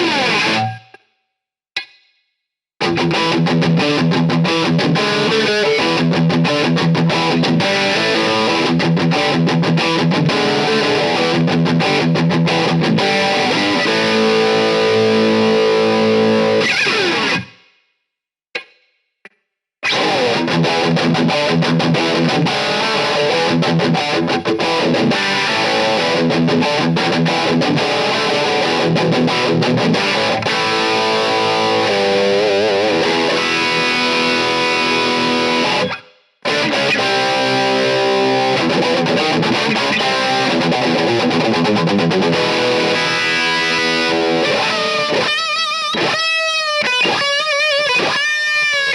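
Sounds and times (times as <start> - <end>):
distorted electric guitar: 0.0 - 1.0, 2.8 - 17.6, 19.8 - 48.9.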